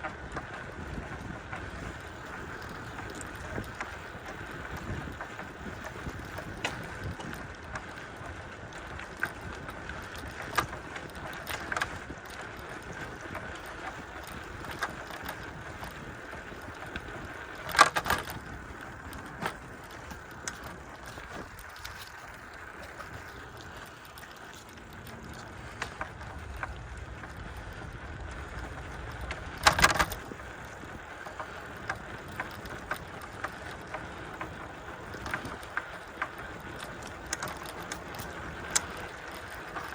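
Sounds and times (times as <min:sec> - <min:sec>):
bicycle tyre and wind noise: 0:00.0 - 0:39.9
bike rattling over bumps: 0:00.0 - 0:39.9
small clicks from bike: 0:00.0 - 0:39.9.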